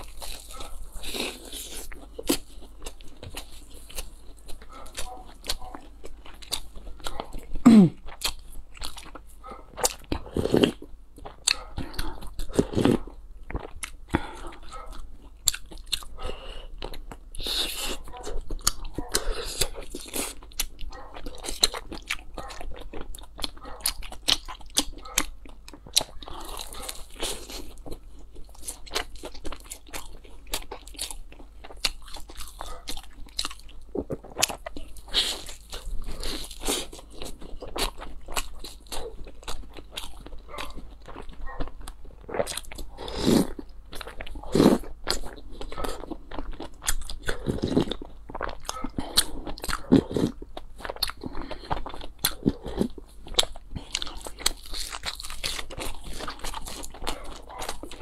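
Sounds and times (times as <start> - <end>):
crunchy bites and wet chewing: 0.0 - 58.0.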